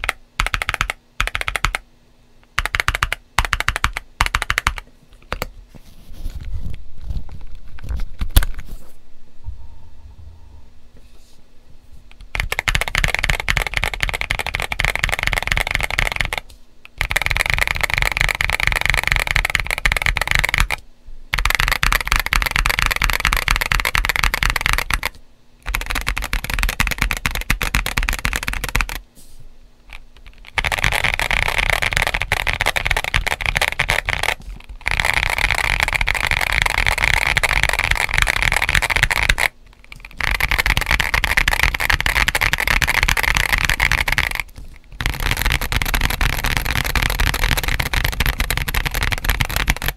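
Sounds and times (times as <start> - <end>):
mechanical keyboard typing: 0.0 - 1.8, 2.5 - 5.5, 12.2 - 29.0, 29.9 - 49.9.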